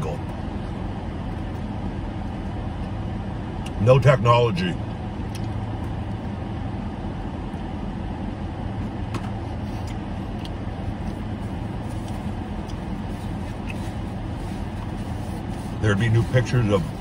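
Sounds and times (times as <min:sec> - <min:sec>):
car air conditioning rushing: 0:00.0 - 0:17.0.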